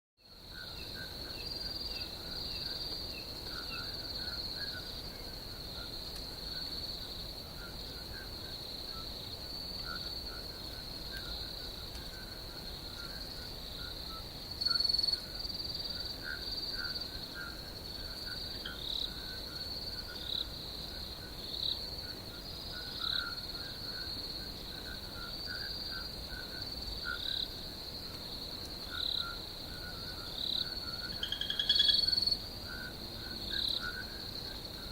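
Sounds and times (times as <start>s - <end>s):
frogs chirping: 0.2s - 34.9s
insects trilling: 0.2s - 34.9s.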